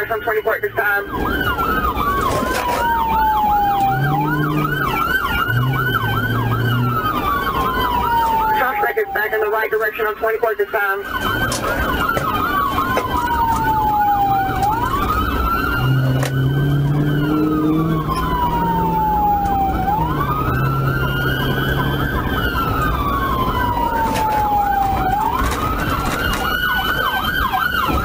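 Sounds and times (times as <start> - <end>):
car engine and road noise: 0.0 - 28.0
police siren wailing: 0.0 - 28.0
siren fast yelp: 0.0 - 28.0.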